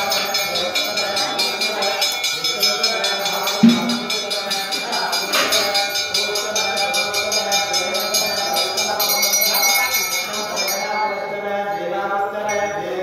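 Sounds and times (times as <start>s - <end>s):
bell ringing rapidly: 0.0s - 11.7s
voices chanting: 0.0s - 13.0s.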